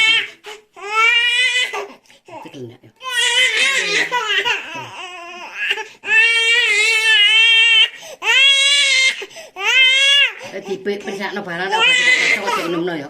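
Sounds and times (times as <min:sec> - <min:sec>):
infant crying: 0:00.0 - 0:12.8.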